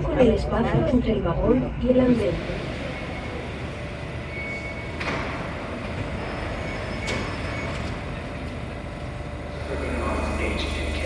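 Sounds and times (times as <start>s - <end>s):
metro train hum and rumble: 0.0s - 11.0s.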